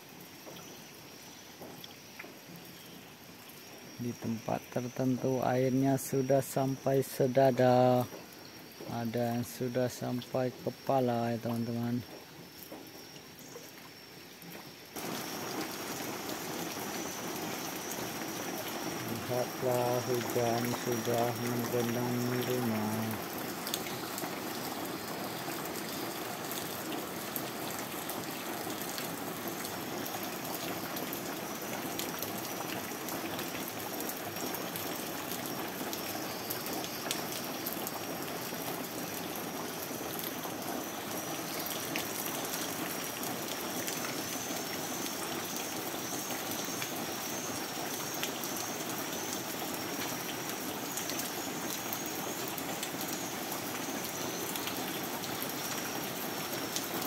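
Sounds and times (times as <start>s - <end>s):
rain on water and wooden porch: 0.0s - 57.0s.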